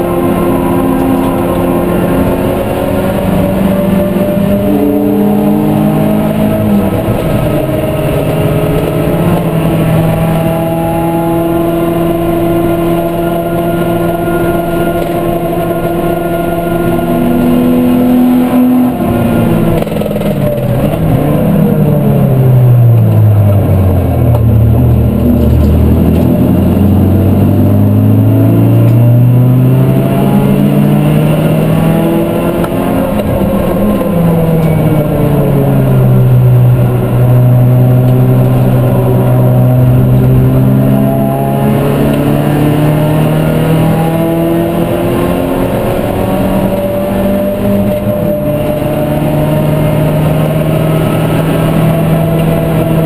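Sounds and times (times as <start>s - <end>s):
racing engine revving: 0.0s - 53.0s.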